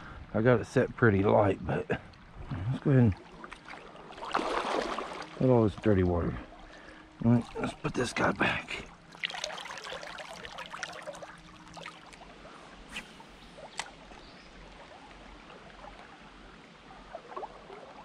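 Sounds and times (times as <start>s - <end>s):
creek water splashing: 1.8s - 18.0s.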